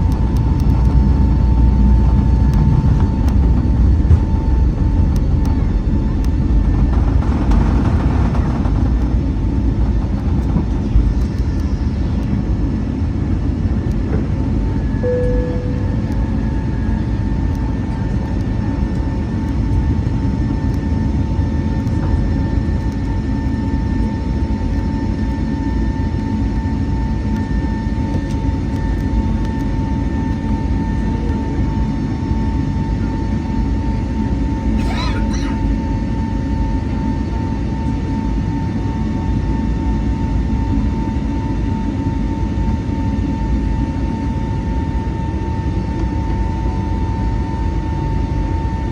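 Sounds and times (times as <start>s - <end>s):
jet engines rumbling: 0.0s - 46.4s
constant whine: 0.0s - 48.9s.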